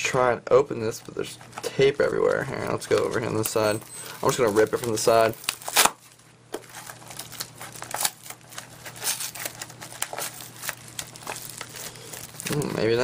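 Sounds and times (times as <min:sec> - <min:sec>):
package wrapping tearing: 0:01.4 - 0:13.0.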